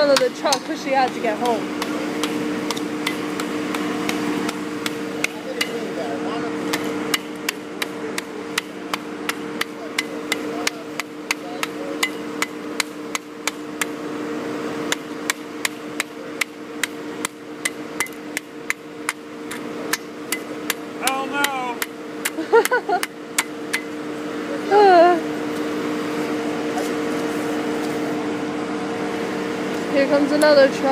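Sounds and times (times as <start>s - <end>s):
paving machinery humming: 0.0s - 30.9s.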